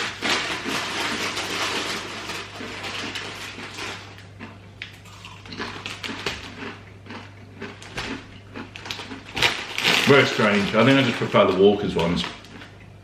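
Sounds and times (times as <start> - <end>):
crisps being crunched and chewed: 0.0 - 12.9
low steady hum: 0.0 - 13.0.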